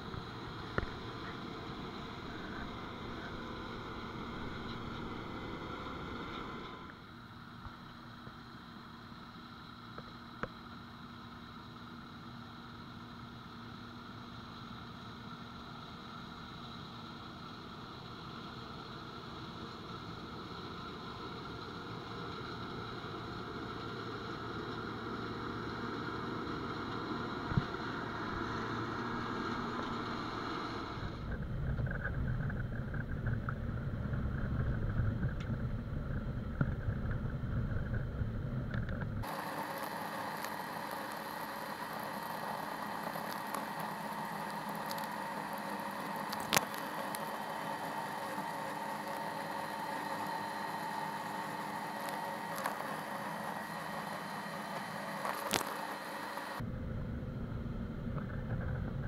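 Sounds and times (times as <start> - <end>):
combine harvester running: 0.0 - 59.0
steady hums inside cab: 0.0 - 59.0.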